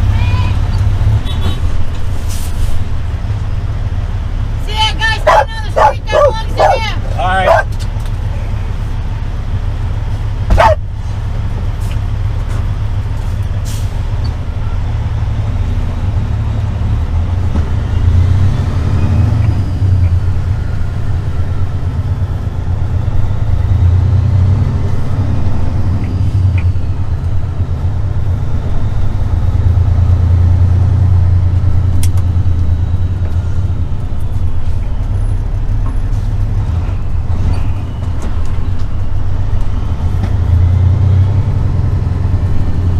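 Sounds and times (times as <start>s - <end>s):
truck diesel engine drone: 0.0s - 42.9s.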